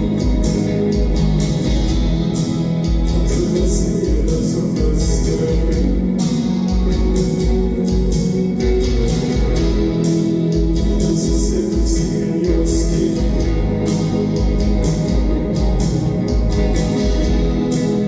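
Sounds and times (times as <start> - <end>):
kick drum: 0.0 - 10.0, 10.6 - 17.8
bass guitar: 0.0 - 18.0
guitar: 0.0 - 18.0.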